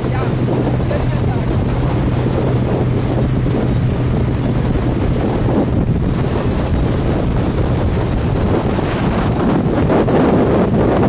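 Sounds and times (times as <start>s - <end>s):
boat engine humming: 0.0s - 11.0s
wind buffeting microphone: 0.0s - 11.0s.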